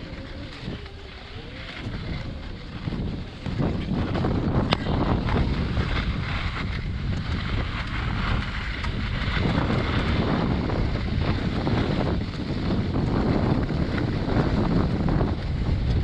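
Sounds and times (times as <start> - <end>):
skis scraping on snow: 0.0 - 16.0
wind buffeting microphone: 0.0 - 16.0.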